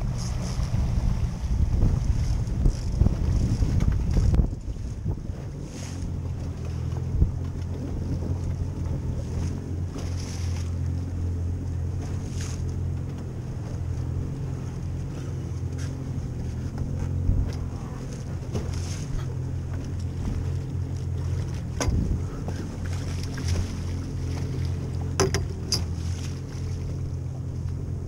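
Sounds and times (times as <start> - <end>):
wind on microphone: 0.0 - 11.2, 13.6 - 27.3
outboard motor idling: 0.0 - 28.0
water slapping hull: 0.0 - 28.0.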